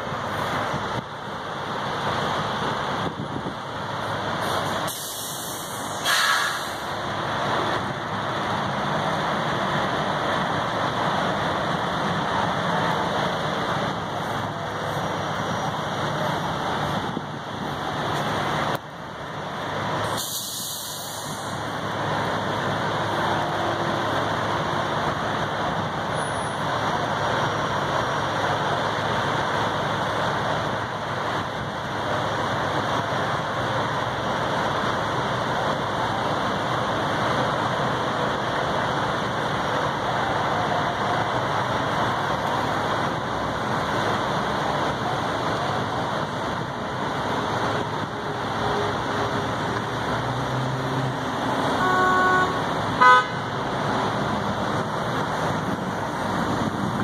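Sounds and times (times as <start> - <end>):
engines idling: 0.0 - 57.0
road traffic noise: 0.0 - 57.0.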